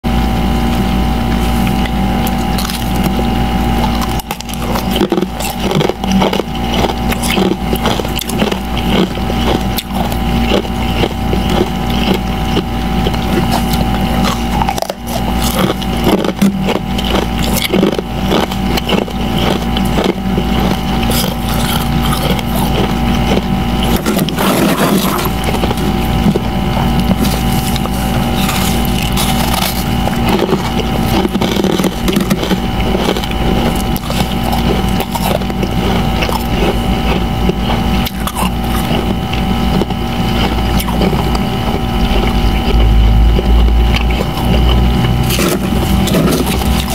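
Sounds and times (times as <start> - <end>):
mechanical hum: 0.0 - 46.9
frost crunching as chewed: 0.6 - 46.9.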